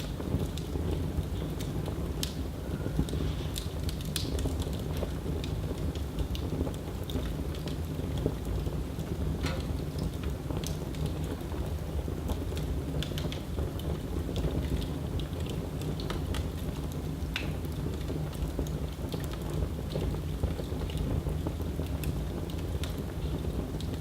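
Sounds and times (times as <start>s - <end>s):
fire crackles and pops: 0.0s - 24.0s
fire rumbling: 0.0s - 24.0s.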